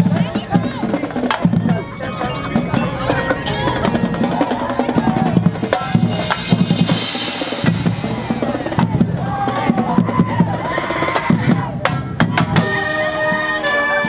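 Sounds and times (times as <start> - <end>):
bass drums and snares beating: 0.0 - 12.9
held brass notes: 0.0 - 14.0.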